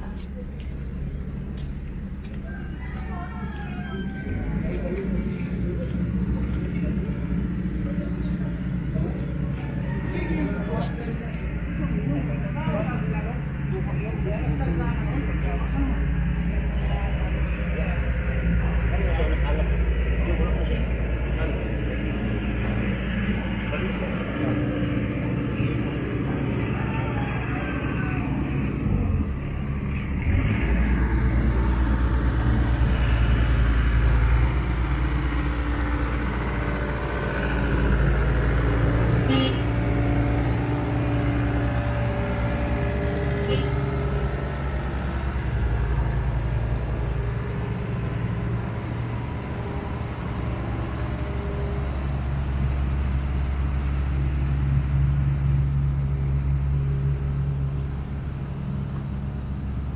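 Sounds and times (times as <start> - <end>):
diesel engine rumbling: 0.0 - 59.9
street vehicle noise: 0.0 - 59.9.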